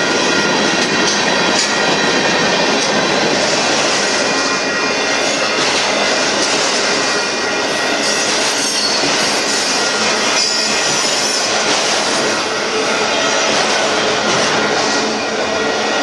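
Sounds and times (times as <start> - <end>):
train wheels rushing on rail: 0.0 - 16.0.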